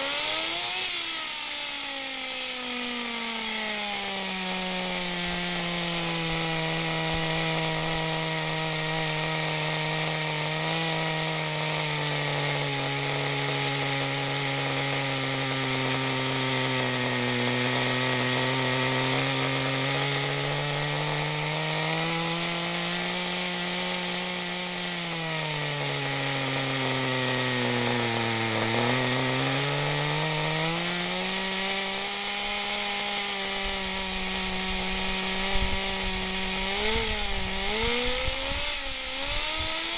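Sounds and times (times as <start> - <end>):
small model car engine running: 0.0 - 39.9.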